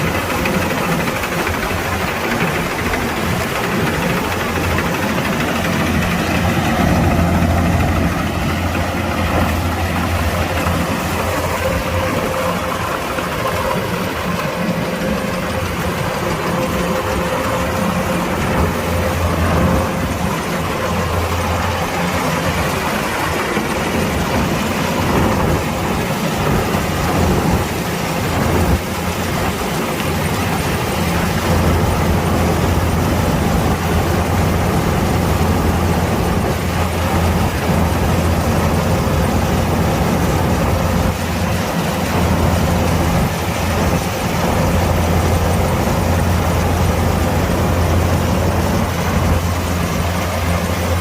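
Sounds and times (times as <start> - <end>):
combine harvester engine running: 0.0 - 51.0.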